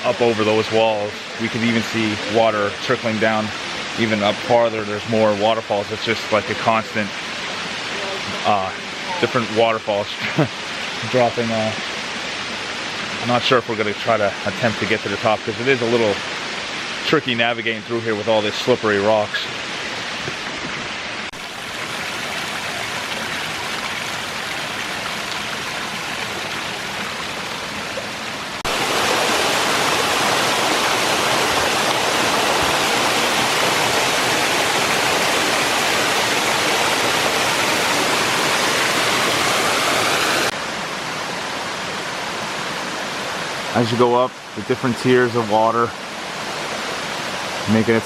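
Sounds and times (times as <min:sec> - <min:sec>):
waterfall splashing on rocks: 0:00.0 - 0:48.0.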